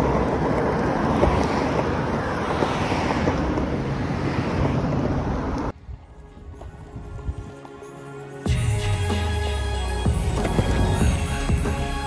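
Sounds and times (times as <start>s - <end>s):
longboard wheels rolling on asphalt: 0.0s - 12.0s.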